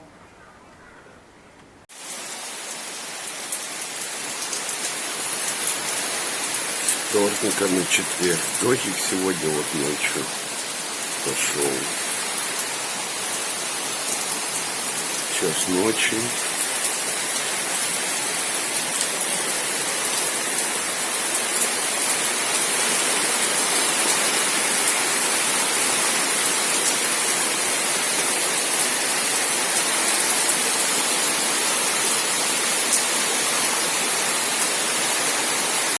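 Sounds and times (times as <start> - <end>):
rain falling: 1.9 - 36.0.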